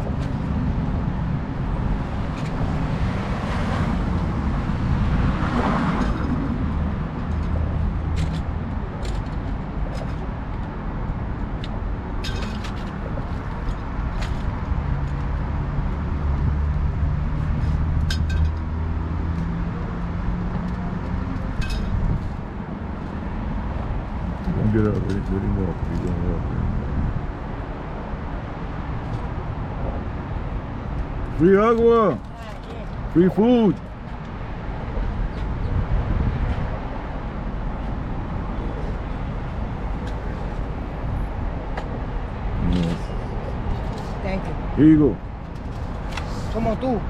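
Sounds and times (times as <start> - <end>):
street traffic: 0.0 - 47.0.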